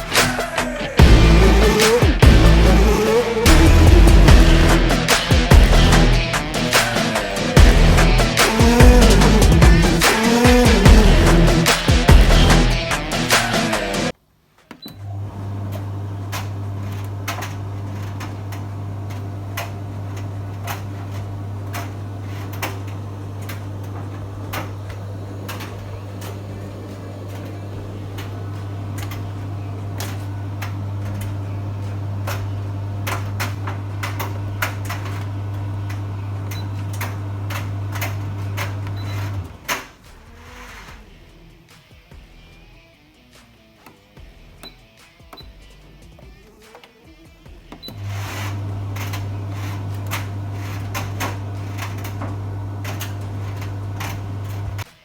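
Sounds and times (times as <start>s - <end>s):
tumble dryer humming: 0.0s - 14.2s, 15.0s - 41.8s, 47.4s - 55.0s.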